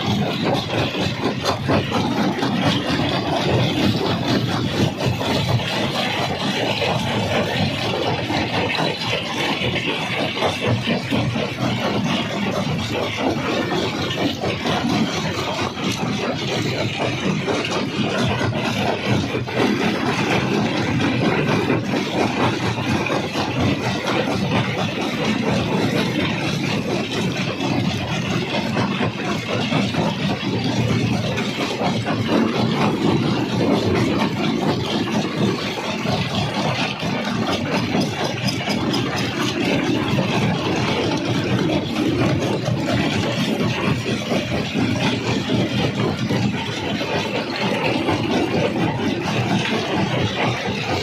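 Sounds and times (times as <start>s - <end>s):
heavy machine drone: 0.0s - 51.0s.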